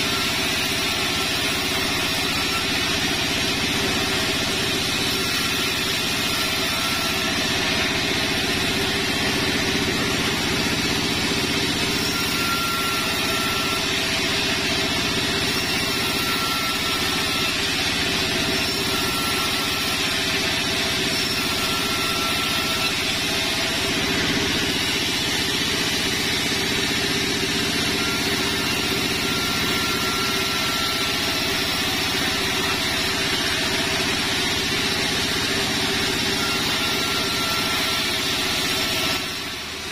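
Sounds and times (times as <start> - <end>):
band saw cutting wood: 0.0 - 39.9
high whines of saw: 0.0 - 39.9.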